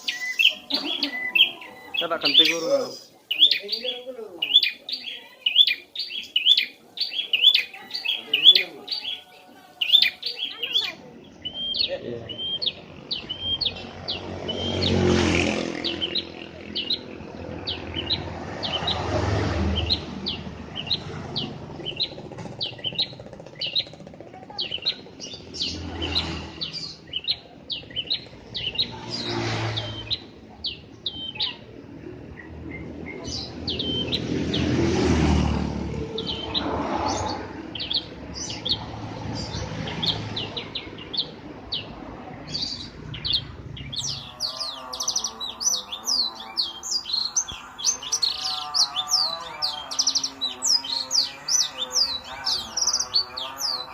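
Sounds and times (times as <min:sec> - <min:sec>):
bird chirping: 0:00.0 - 0:31.7, 0:32.3 - 0:34.7, 0:36.2 - 0:53.9.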